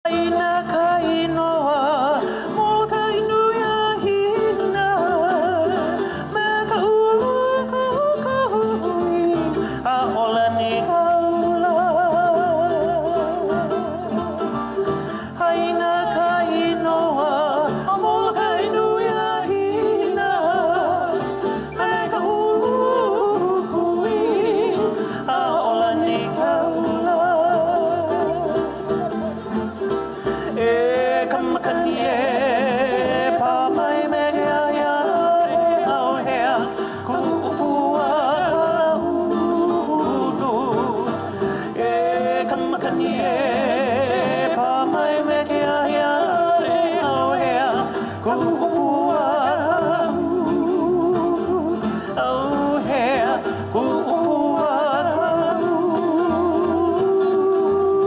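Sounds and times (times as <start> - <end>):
acoustic guitar: 0.0 - 58.0
person singing with vibrato: 0.0 - 58.0
ukulele: 0.0 - 58.0
upright bass: 0.0 - 58.0.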